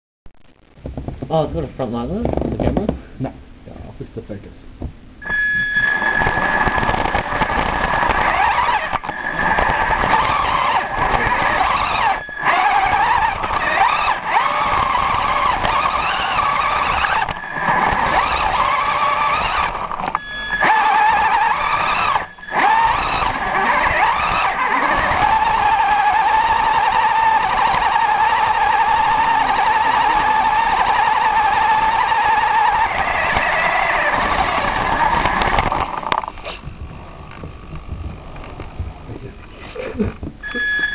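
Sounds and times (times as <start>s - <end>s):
electric motor whine: 5.2s - 39.1s.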